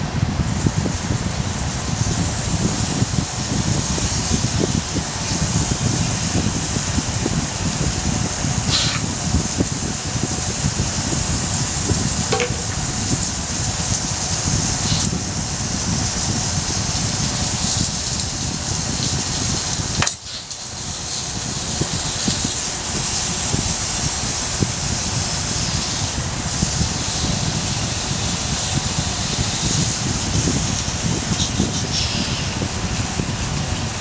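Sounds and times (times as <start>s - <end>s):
campfire burning and crackling: 0.0s - 34.0s
wind rumble on microphone: 0.0s - 34.0s.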